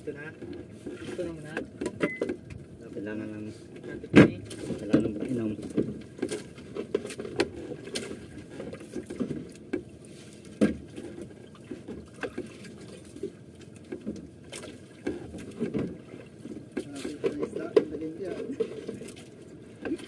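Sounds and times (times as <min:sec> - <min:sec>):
water sloshing against boat hull: 0:00.0 - 0:20.0.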